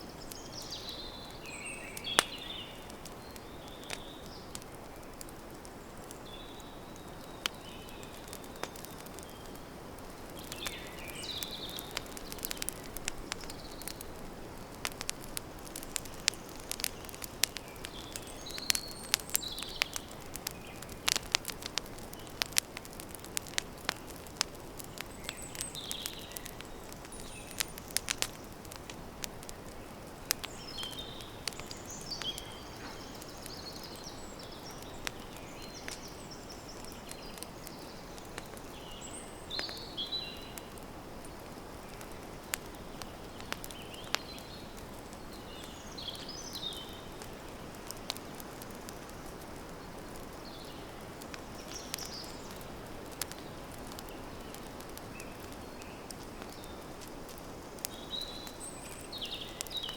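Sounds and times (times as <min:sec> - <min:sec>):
campfire crackling and popping: 0:00.0 - 0:59.9
small birds chirping: 0:00.0 - 0:59.9.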